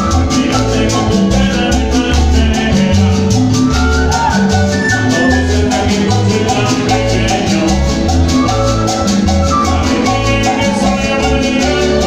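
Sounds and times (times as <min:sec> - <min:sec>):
latin dance band playing: 0:00.0 - 0:12.0
shaker percussion rhythm: 0:00.0 - 0:12.0.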